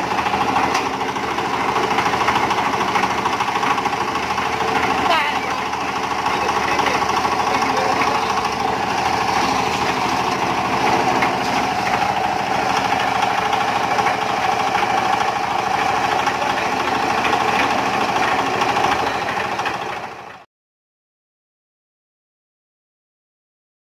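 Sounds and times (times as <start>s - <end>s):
concrete mixer rattling: 0.0s - 20.4s.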